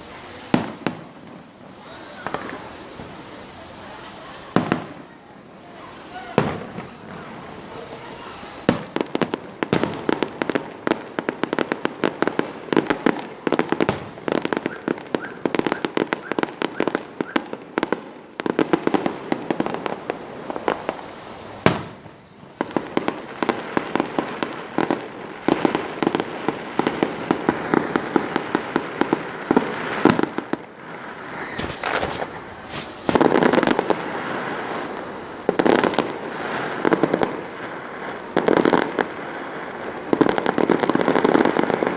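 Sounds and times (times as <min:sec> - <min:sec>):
fireworks bangs: 0:00.0 - 0:41.9
fireworks crackling and popping: 0:00.0 - 0:41.9.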